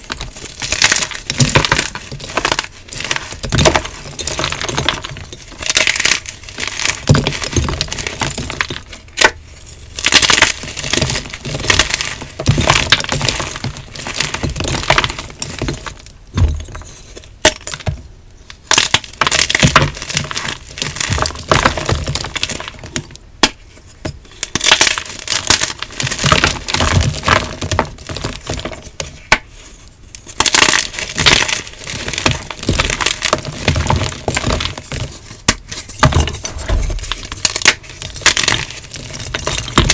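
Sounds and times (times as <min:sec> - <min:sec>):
chalk blocks crunching and snapping: 0:00.0 - 0:39.9.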